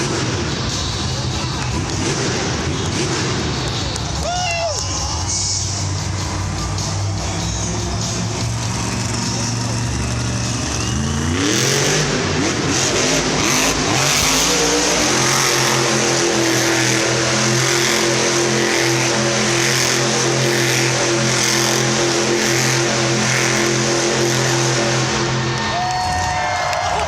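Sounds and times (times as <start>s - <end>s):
monster truck engine revving: 0.0s - 26.3s.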